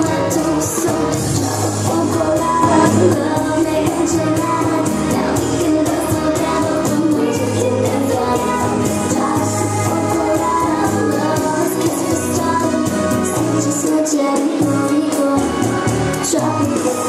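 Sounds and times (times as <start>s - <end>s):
latin dance music with singer: 0.0s - 17.0s.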